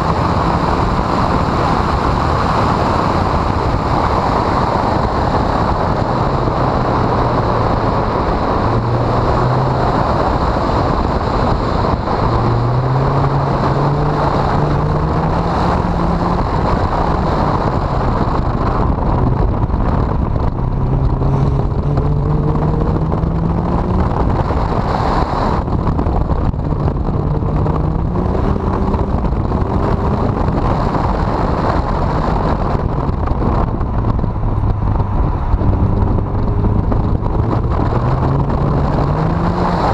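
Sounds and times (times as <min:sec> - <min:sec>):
car engine revving: 0:00.0 - 0:39.9
wind and road noise: 0:00.0 - 0:39.9.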